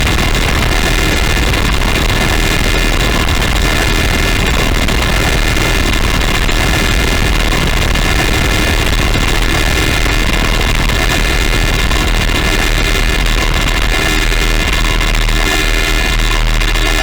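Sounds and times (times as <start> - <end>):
distorted synthesizer: 0.0 - 17.0.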